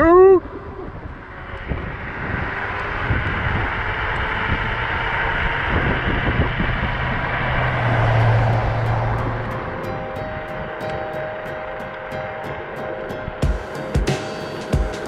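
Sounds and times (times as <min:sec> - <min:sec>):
wind on microphone: 0:00.0 - 0:13.4
low hum: 0:00.0 - 0:13.8
scooter road noise: 0:00.0 - 0:15.0.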